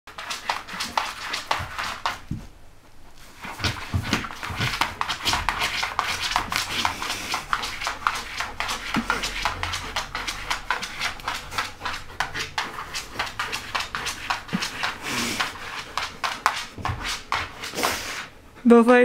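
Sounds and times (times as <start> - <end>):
dog scratching with claws: 0.1 - 2.3, 3.2 - 18.3.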